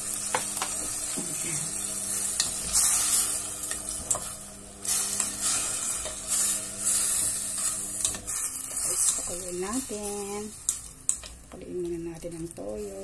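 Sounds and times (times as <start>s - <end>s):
food sizzling in a pot: 0.0s - 13.0s
steady low hum: 0.0s - 13.0s.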